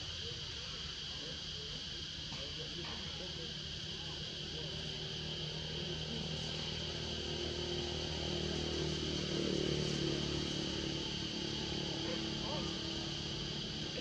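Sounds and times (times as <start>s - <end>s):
high insect drone: 0.0s - 14.0s
motor engine low hum: 2.4s - 14.0s.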